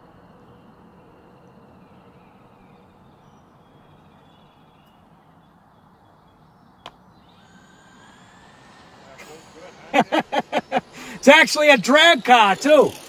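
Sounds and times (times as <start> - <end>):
faint bird chirps: 0.0 - 11.4.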